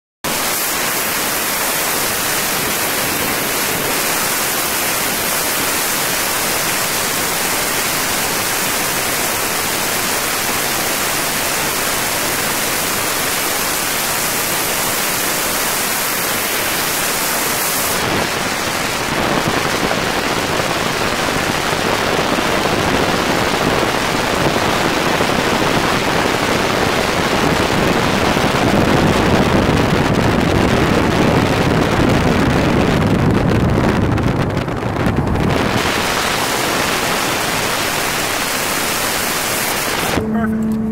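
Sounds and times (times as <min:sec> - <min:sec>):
wind and road noise from car: 0:00.3 - 0:40.9.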